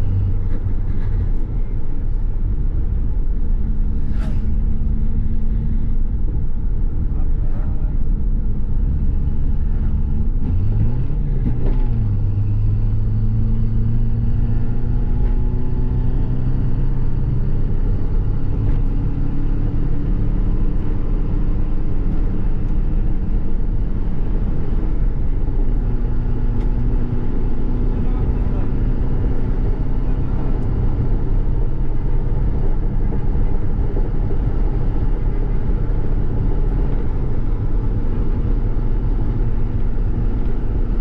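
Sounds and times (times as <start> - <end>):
car engine running at road speed: 0.0 - 41.0.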